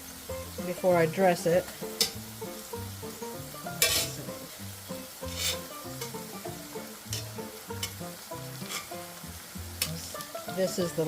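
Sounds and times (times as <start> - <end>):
food sizzling in oil: 0.0 - 11.0
background music with light beat: 0.2 - 11.0.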